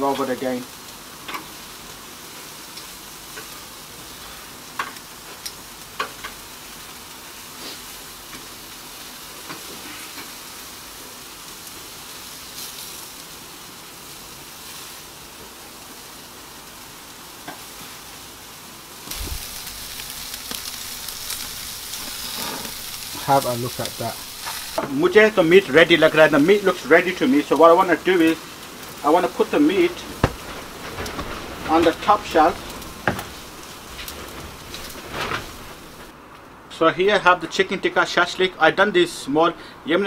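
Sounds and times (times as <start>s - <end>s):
meat sizzling on grill: 0.0s - 36.2s.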